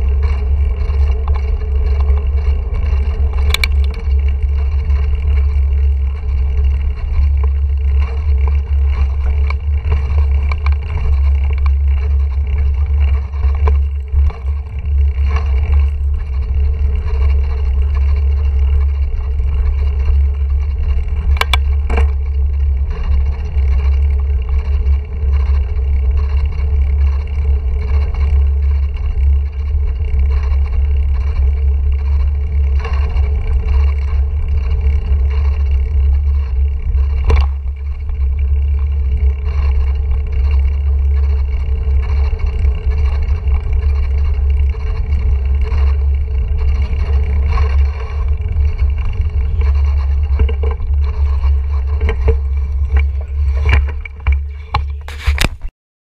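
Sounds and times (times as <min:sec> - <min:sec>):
wind rumble on microphone: 0:00.0 - 0:55.7.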